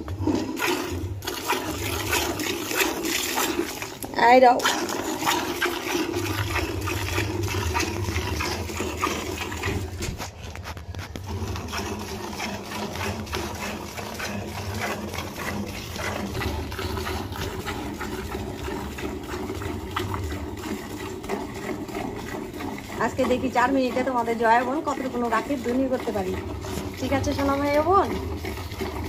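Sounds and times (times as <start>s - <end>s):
milk squirting into metal pail: 0.0s - 29.0s.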